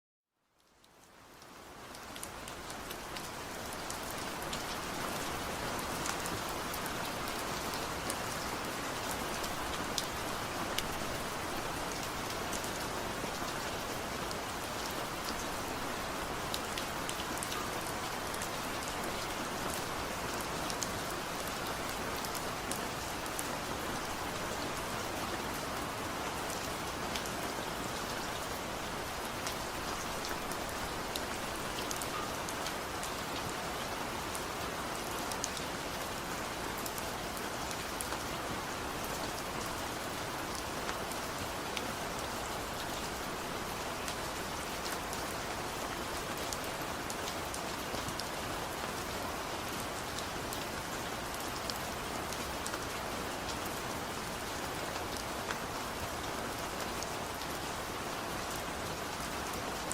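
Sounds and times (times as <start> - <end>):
light rain falling: 0.3 - 59.9.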